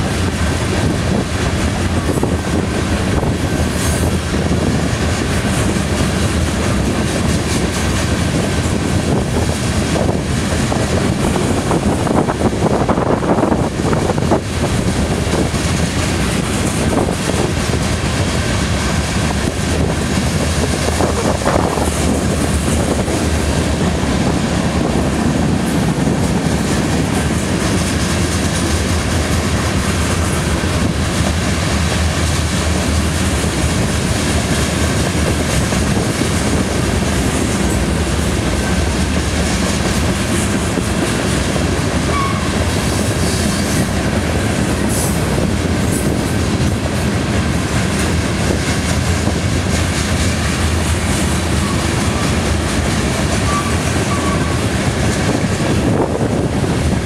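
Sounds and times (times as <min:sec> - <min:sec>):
freight train wheels rumbling: 0:00.0 - 0:57.0
wheels clacking over rail joints: 0:00.0 - 0:57.0.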